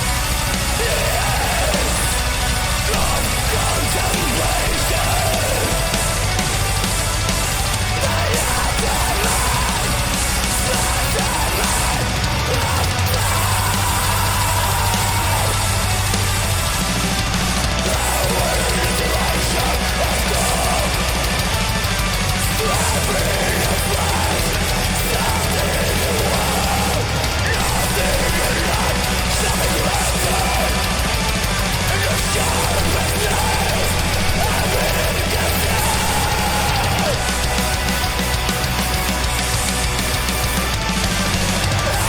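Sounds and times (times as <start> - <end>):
black metal music: 0.0 - 42.0.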